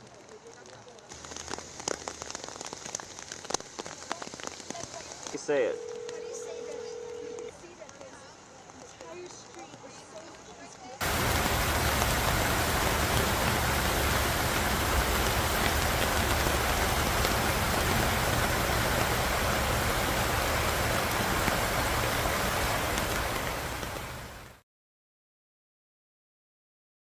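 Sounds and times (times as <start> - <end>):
heavy rain: 0.0 - 10.3, 11.0 - 24.6.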